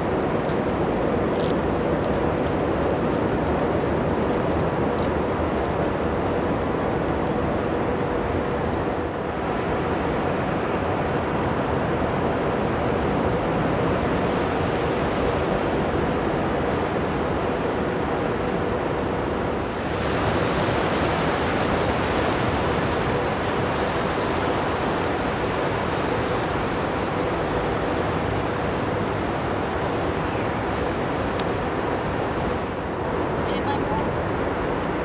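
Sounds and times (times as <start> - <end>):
hiss of wind and water: 0.0 - 35.0.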